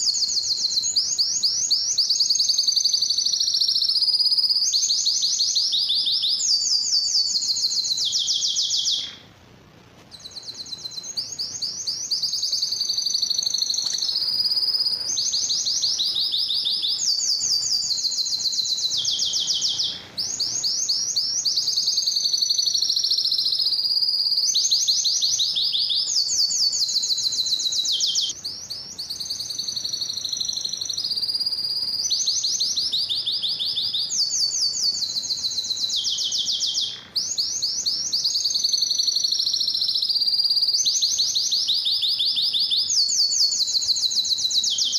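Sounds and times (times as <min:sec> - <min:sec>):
canary singing trills: 0:00.0 - 0:09.4, 0:10.0 - 0:44.9.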